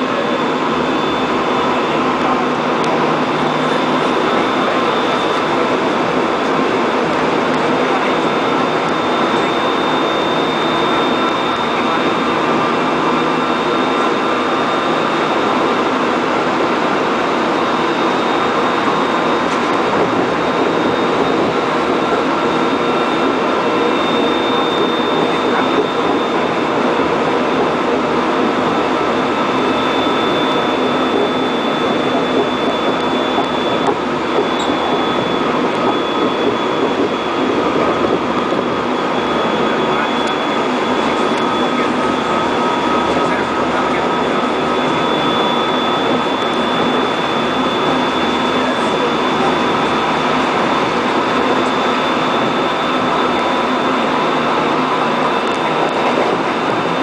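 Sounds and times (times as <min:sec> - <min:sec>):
high whine: 0:00.0 - 0:57.0
train wheels rumbling on rail: 0:00.0 - 0:57.0.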